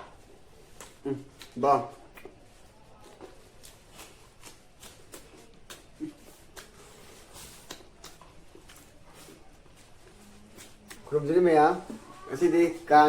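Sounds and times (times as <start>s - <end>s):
chewing and mouth noises: 0.3s - 11.2s.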